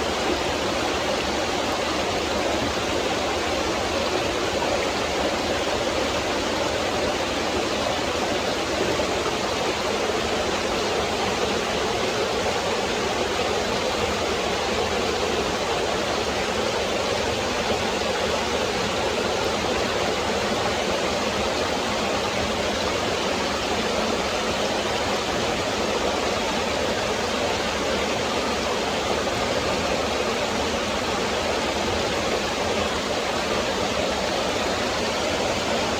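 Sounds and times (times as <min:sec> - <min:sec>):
stream flowing over rocks: 0:00.0 - 0:35.9.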